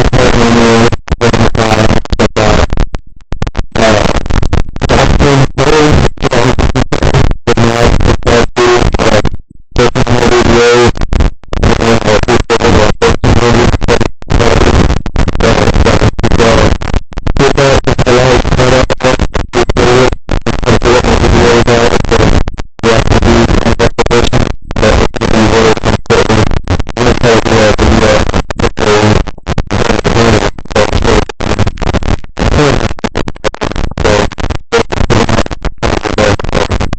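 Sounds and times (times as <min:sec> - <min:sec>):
garbled distorted tone: 0:00.0 - 0:36.9
harsh microphone static: 0:00.0 - 0:36.9.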